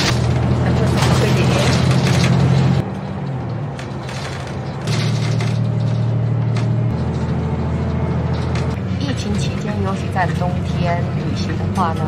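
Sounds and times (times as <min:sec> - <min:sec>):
bus engine drone: 0:00.0 - 0:12.0
rattles and clicks in bus interior: 0:00.0 - 0:12.0.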